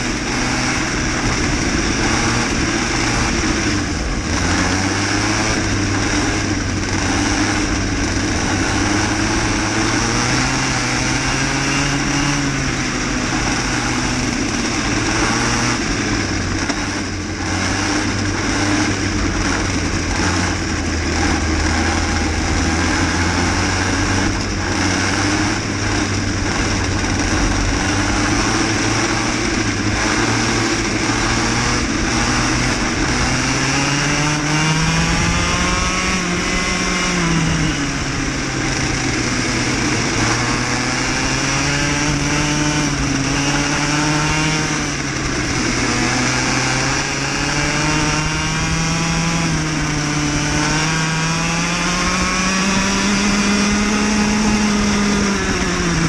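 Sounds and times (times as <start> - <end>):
kart engine at race speed: 0.0 - 56.0.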